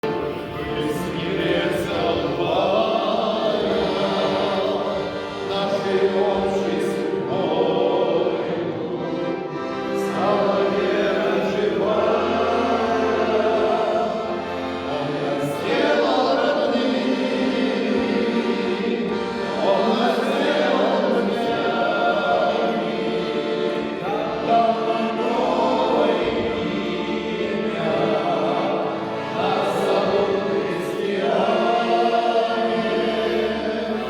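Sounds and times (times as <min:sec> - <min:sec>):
church choir singing: 0:00.0 - 0:34.0.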